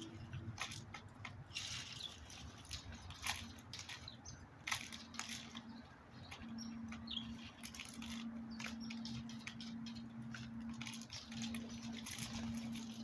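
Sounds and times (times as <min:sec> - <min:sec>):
birds pecking taps: 0:00.0 - 0:13.0.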